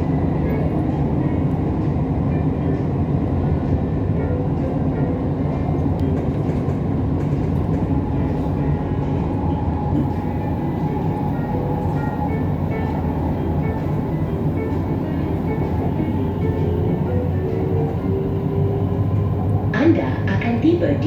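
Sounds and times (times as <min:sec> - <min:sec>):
faint train whine: 0:00.0 - 0:21.0
train wheels rumbling on rail: 0:00.0 - 0:21.0.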